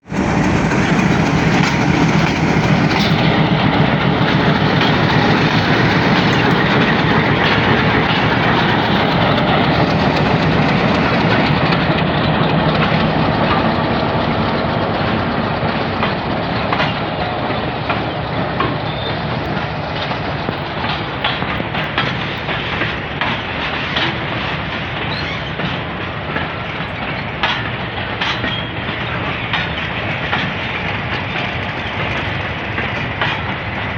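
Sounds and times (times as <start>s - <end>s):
freight wagons rumbling and rattling: 0.0s - 33.9s
wheels clacking over rail joints: 0.0s - 33.9s.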